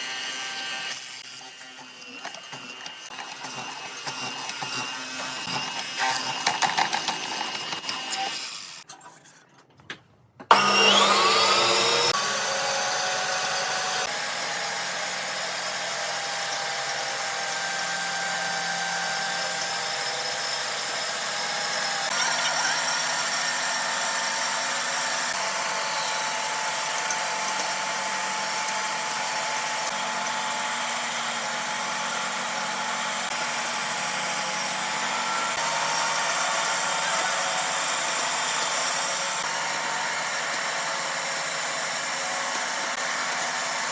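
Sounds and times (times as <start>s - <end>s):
power tool whining: 0.0s - 8.9s, 10.5s - 43.9s.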